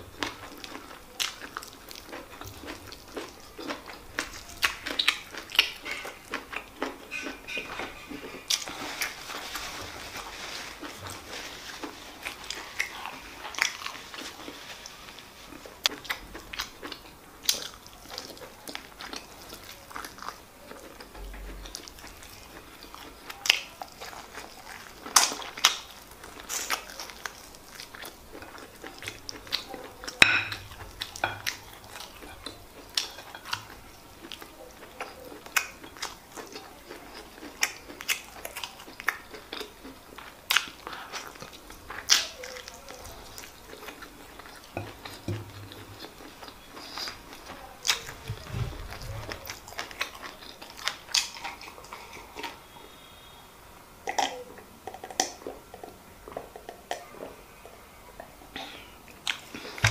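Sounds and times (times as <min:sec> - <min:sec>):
chewing and wet mouth sounds: 0:00.0 - 0:53.3, 0:54.0 - 0:59.9.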